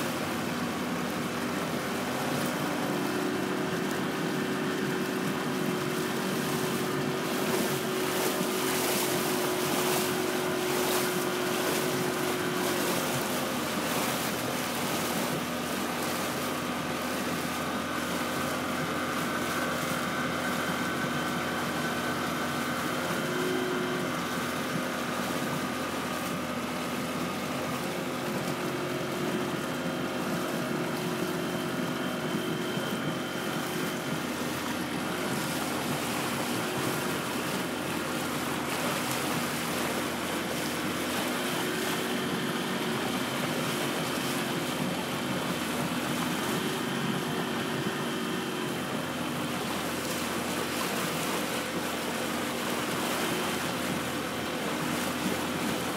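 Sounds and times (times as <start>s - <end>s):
boat engine running: 0.0s - 55.9s
water rushing past hull: 0.0s - 55.9s.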